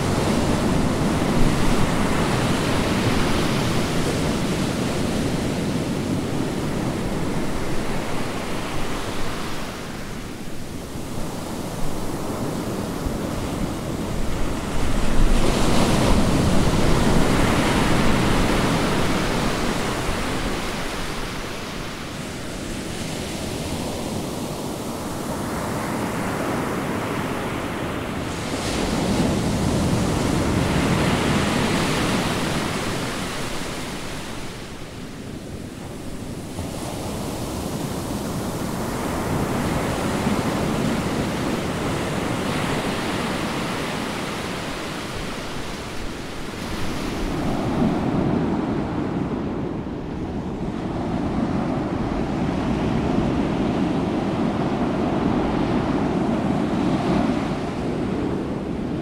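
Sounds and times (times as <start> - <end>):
waves: 0.0 - 59.0
wind: 0.0 - 59.0.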